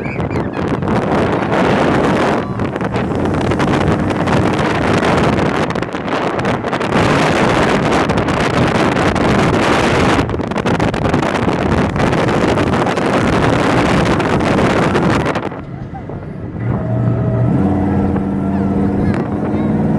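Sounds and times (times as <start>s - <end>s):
monster truck engine running: 0.0s - 19.9s
wind buffeting microphone: 0.0s - 19.9s.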